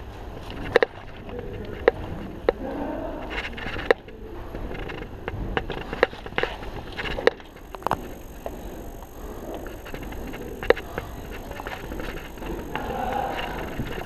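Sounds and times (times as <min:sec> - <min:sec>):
steady rustling: 0:00.0 - 0:14.0.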